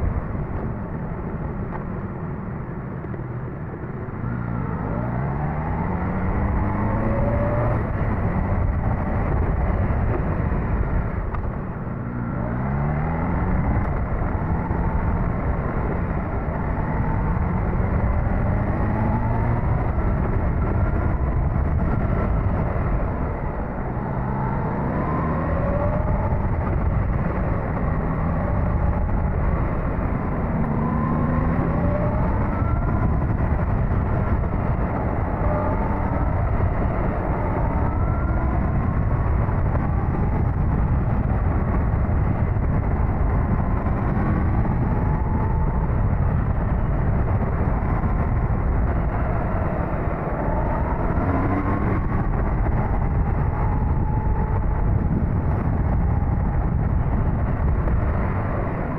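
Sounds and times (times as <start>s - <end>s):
wind and road noise: 0.0s - 58.9s
motorcycle engine accelerating: 2.9s - 58.9s.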